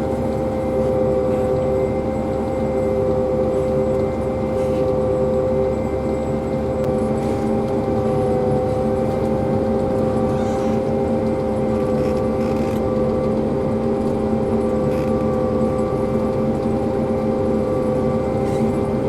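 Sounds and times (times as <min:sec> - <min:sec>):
harvesting machinery drone: 0:00.0 - 0:19.0
steady machine whine: 0:00.0 - 0:19.0.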